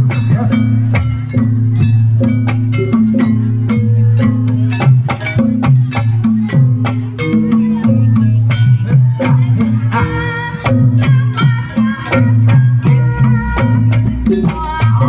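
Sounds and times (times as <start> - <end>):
hand drum: 0.0 - 15.0
metallophones struck in quick notes: 0.0 - 15.0.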